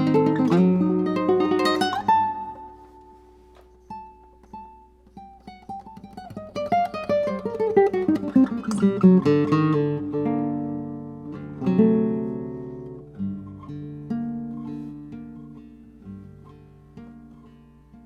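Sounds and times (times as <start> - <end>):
classical guitar: 0.0 - 18.0.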